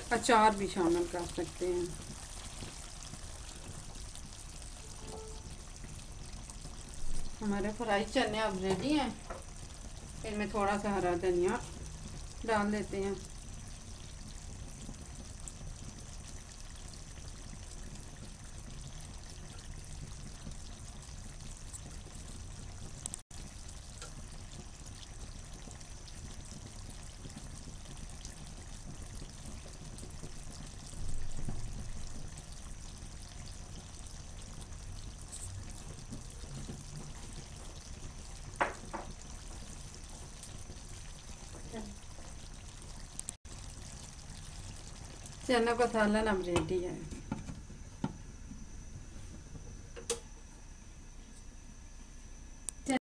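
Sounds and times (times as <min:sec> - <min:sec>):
chickpeas sizzling in oil: 0:00.0 - 0:50.4.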